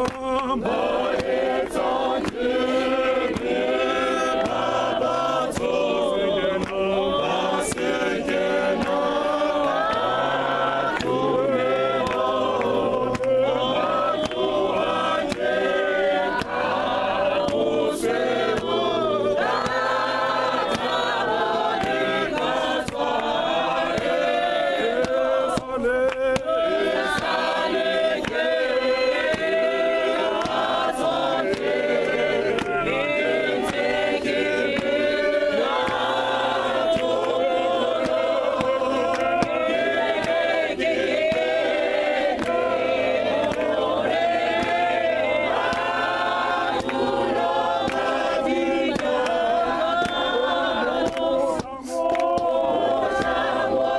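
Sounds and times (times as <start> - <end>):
men's choir singing: 0.0 - 53.9.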